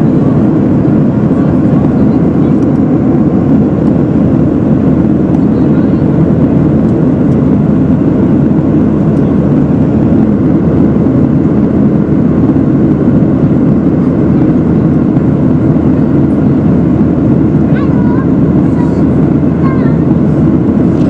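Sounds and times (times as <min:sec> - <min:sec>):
airliner cabin noise: 0:00.0 - 0:21.0.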